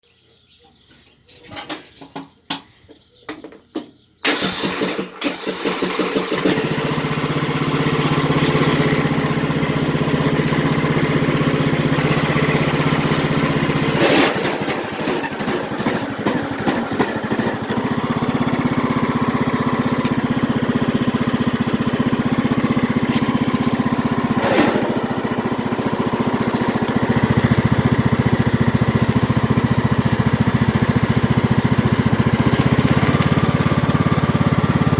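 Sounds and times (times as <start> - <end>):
lawn tractor engine running: 3.8 - 34.9.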